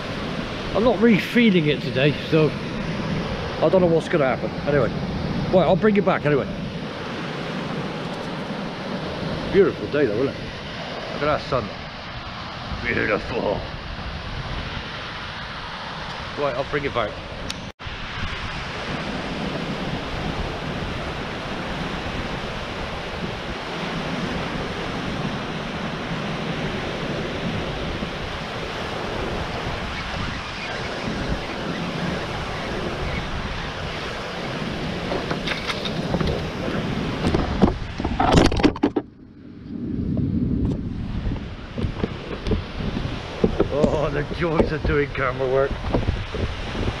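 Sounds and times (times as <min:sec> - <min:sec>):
wind on microphone: 0:00.0 - 0:47.0.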